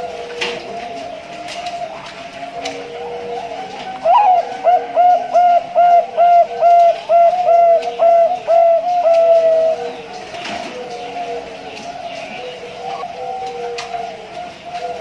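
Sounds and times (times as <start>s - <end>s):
dove cooing: 0.0s - 15.0s
faint lower dove coo: 0.0s - 15.0s.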